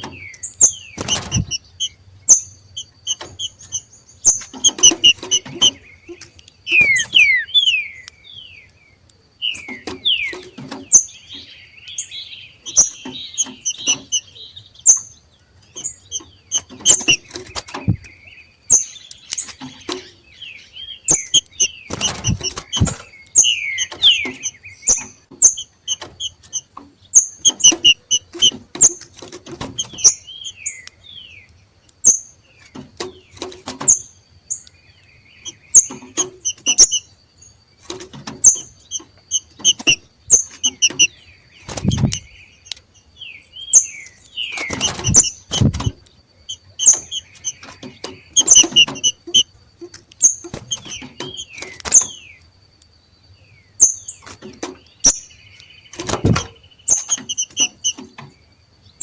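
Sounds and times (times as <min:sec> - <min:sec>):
birds chattering with sharp chips: 0:00.0 - 0:59.0.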